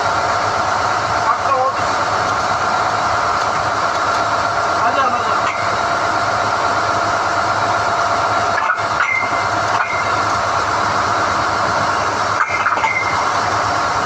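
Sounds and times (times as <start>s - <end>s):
drilling rig running: 0.0s - 14.0s.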